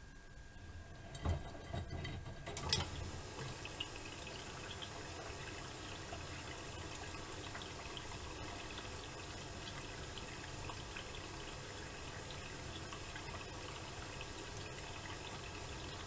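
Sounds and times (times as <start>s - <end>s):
washing machine filling with water: 0.6s - 16.0s.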